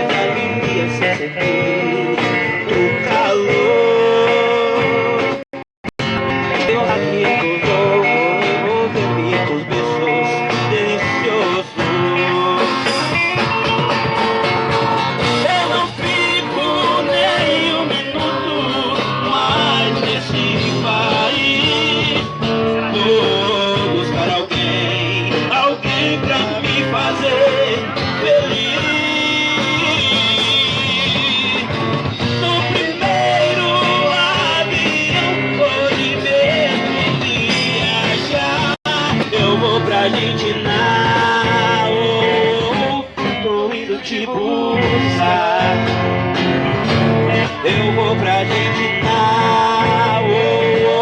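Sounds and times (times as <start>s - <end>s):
steady bass: 0.0s - 43.7s, 44.4s - 51.0s
live band instrumental music: 0.0s - 51.0s.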